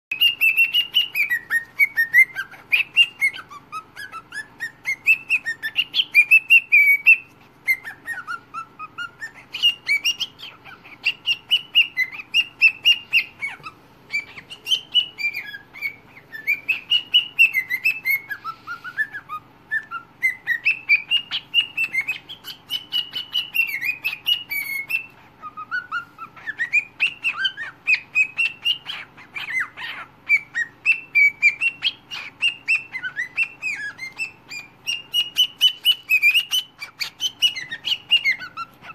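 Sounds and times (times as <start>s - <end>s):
bird whistling warbling song: 0.1s - 38.9s.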